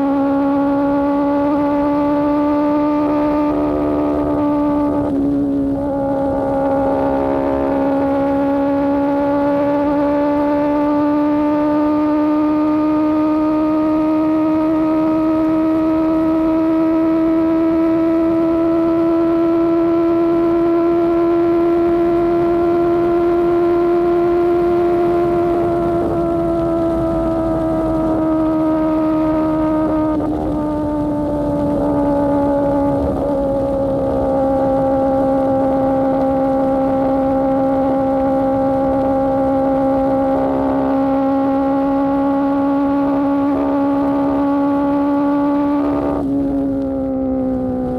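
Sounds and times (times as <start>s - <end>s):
low wind: 0.0s - 47.9s
motorcycle engine high-revving drone: 0.0s - 47.9s
road rumble: 0.0s - 47.9s.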